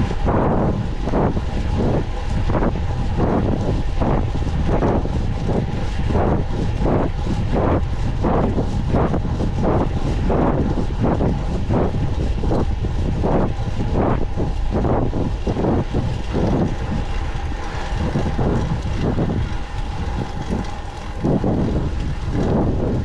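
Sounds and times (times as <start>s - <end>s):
faint steady whine: 0.0s - 23.0s
low road rumble: 0.0s - 23.0s
wind buffeting microphone: 0.0s - 23.0s.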